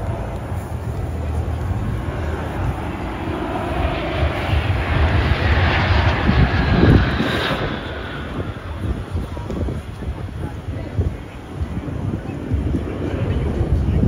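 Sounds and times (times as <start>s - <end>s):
aircraft flying over: 0.0s - 14.0s.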